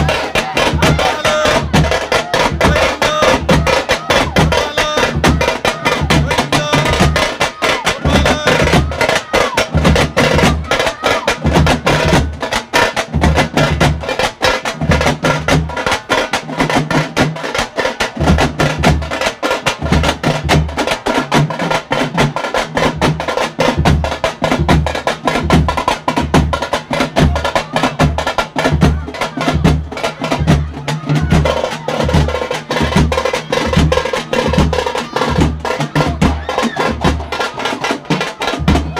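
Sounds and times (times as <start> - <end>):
frame drums beaten fast with sticks: 0.0 - 38.9.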